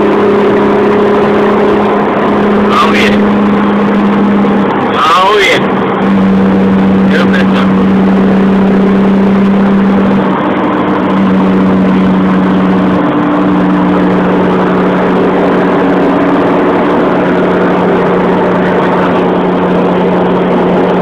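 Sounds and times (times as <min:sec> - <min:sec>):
car engine droning: 0:00.0 - 0:21.0
road and wind noise: 0:00.0 - 0:21.0.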